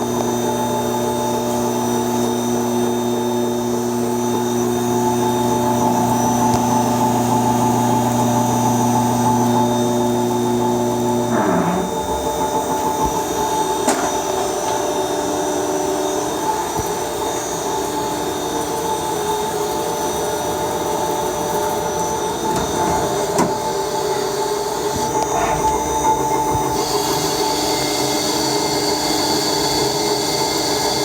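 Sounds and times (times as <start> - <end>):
milling machine whining: 0.0 - 31.0.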